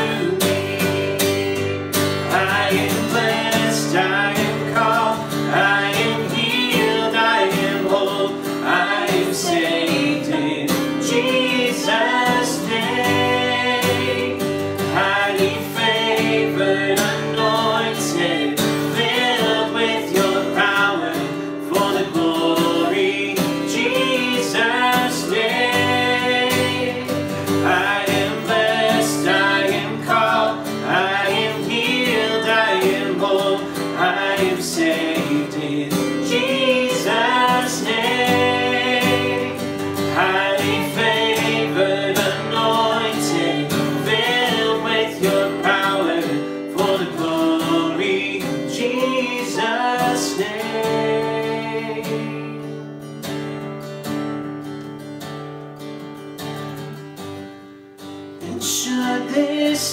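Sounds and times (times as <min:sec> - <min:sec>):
woman and man singing: 0:00.0 - 0:01.6, 0:02.3 - 0:52.8, 0:58.4 - 0:59.9
strummed acoustic guitar: 0:00.0 - 0:59.9.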